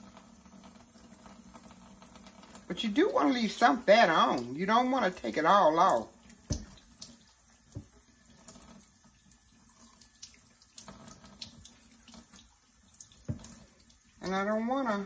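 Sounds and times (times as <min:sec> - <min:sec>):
faint water running in sink: 0:00.0 - 0:15.0.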